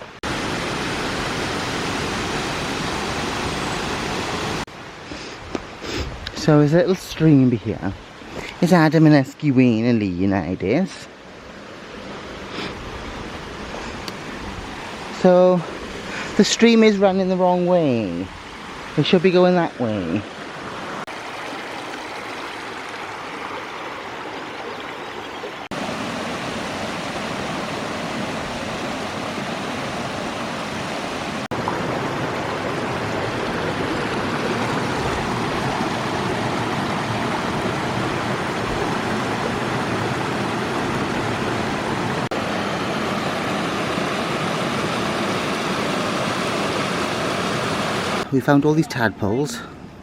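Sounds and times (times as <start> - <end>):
small stream gurgling: 0.0 - 10.0, 11.1 - 49.4.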